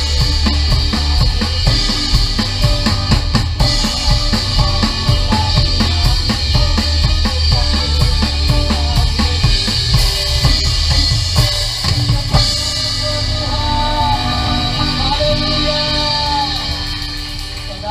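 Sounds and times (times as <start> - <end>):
drum kit playing: 0.0 - 17.9.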